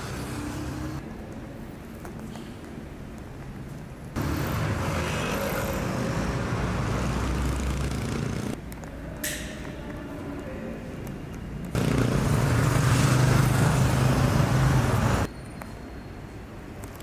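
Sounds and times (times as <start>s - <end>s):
city traffic hum: 0.0s - 17.0s.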